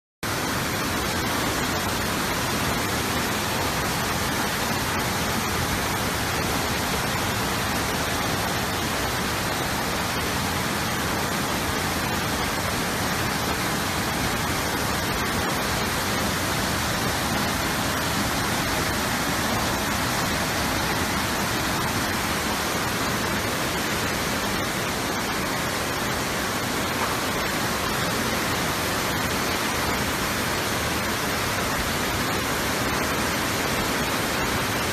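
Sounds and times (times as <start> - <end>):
heavy rain: 0.2 - 34.9
floodwater rushing: 0.3 - 34.9.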